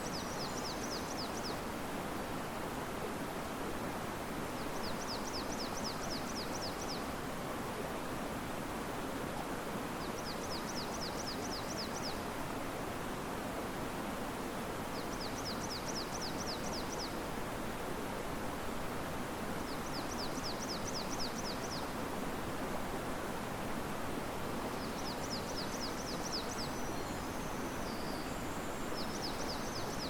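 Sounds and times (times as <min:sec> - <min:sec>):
wind in trees: 0:00.0 - 0:30.0.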